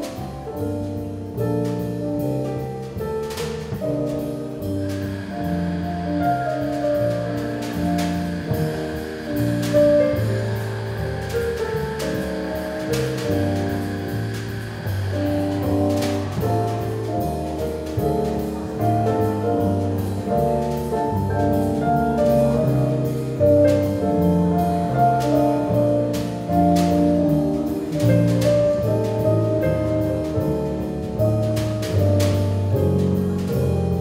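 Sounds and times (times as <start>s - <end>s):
drums and cymbals: 0.0s - 34.0s
electric bass line: 0.0s - 34.0s.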